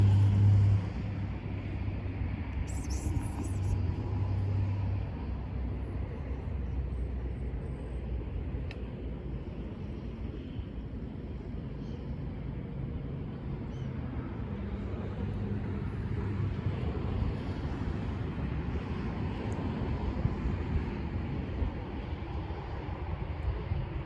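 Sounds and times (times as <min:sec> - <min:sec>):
low rumble of outdoor background: 0:00.0 - 0:24.0.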